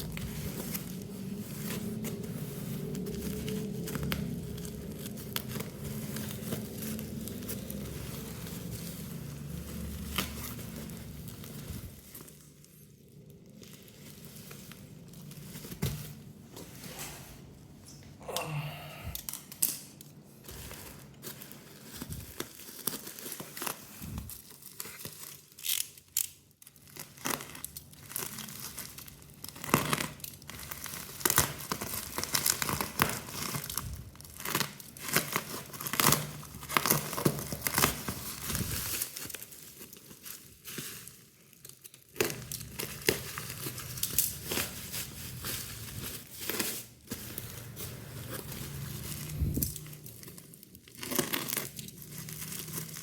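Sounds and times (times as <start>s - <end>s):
packaging tearing and crinkling: 0.0s - 16.3s, 19.1s - 53.0s.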